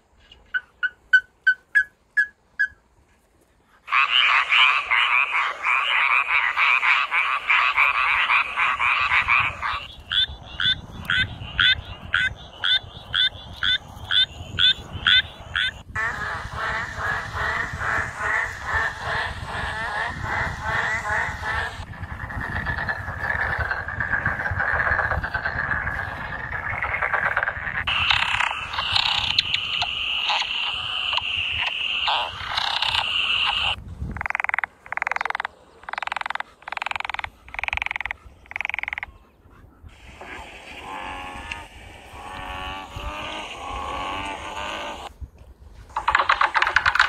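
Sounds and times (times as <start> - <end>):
frog calls: 3.8 - 45.1
frogs trilling chorus: 3.9 - 39.3, 40.0 - 45.1.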